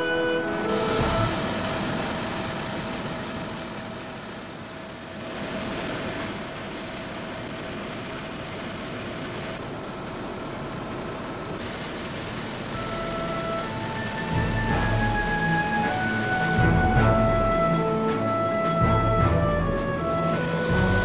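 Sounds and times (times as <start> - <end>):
constant engine whine: 0.0 - 21.0
helicopter rotor and turbine noise: 0.0 - 21.0.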